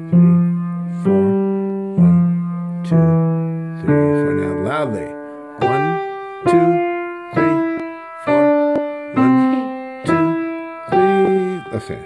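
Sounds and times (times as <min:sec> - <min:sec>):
slow piano notes: 0:00.0 - 0:12.0.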